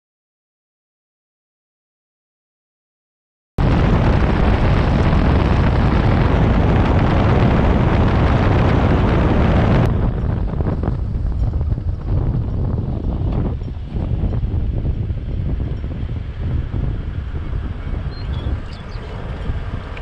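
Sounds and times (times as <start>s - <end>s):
wind buffeting microphone: 3.6s - 20.0s.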